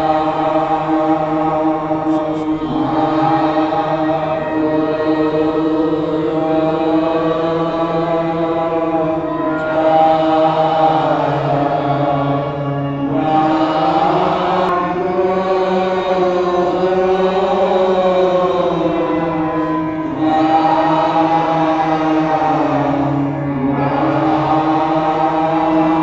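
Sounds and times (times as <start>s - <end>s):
devotional chanting: 0.0s - 26.0s.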